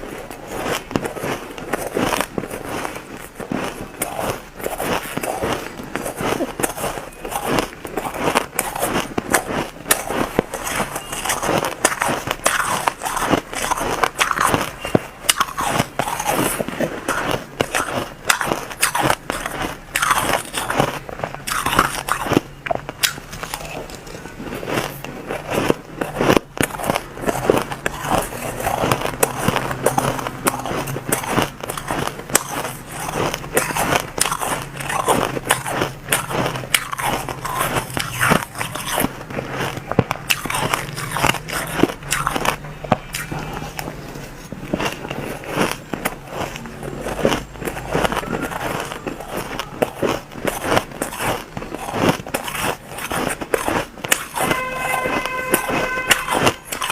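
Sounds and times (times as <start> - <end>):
ice being chewed: 0.0 - 56.9.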